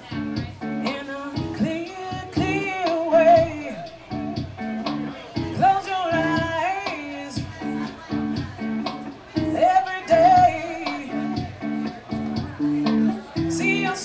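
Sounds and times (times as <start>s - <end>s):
person singing: 0.0s - 14.0s
strummed guitar: 0.0s - 14.0s.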